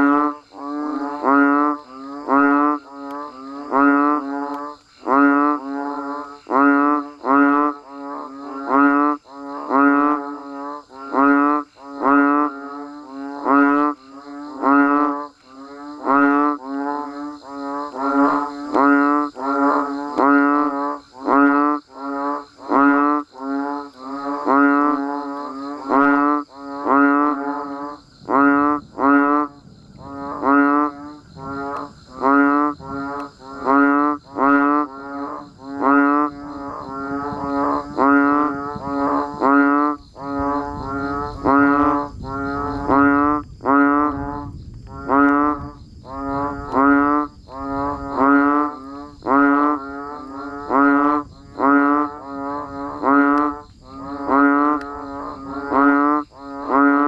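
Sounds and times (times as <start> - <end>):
frogs bleating calls: 0.0 - 57.0.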